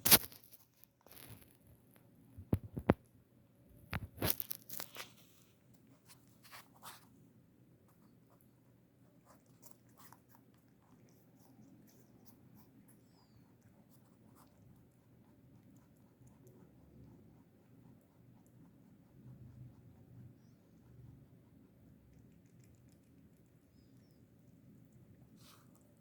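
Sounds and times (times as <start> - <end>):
rabbit crunching food: 0.0 - 26.0.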